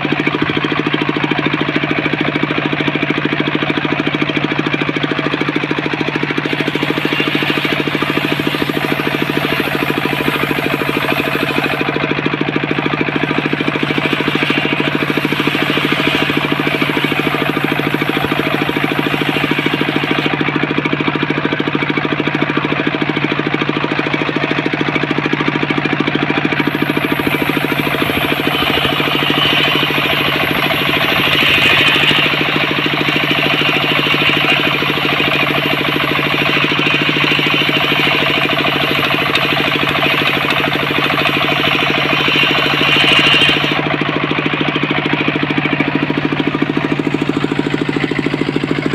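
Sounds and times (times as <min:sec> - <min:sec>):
engine-driven circular saw running: 0:00.0 - 0:48.9.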